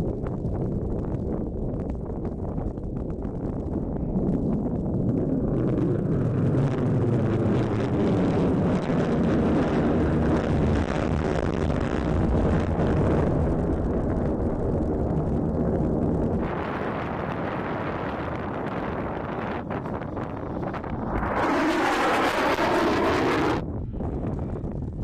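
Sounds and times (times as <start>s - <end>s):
jet engine rumbling: 2.3s - 24.6s.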